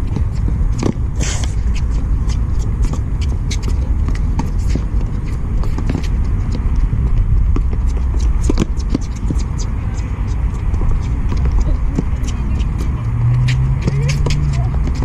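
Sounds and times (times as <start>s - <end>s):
players' footfalls: 0.0s - 15.0s
steady low rumble: 0.0s - 15.0s.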